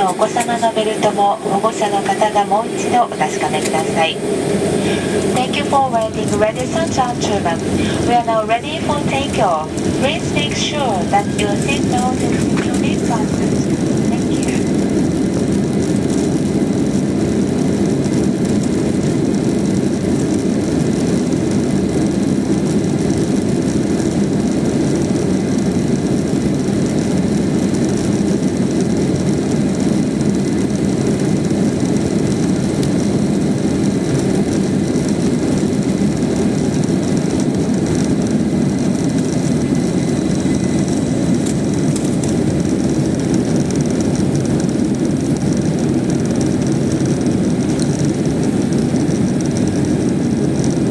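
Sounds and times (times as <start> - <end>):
jet engines from inside cabin: 0.0 - 50.9.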